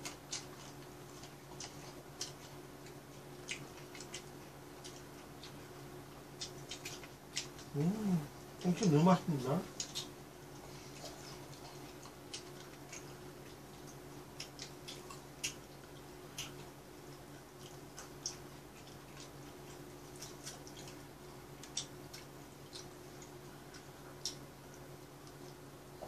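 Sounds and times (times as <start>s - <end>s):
crunchy chewing: 0.0s - 9.0s, 9.6s - 26.0s
steady low hum: 0.0s - 26.0s.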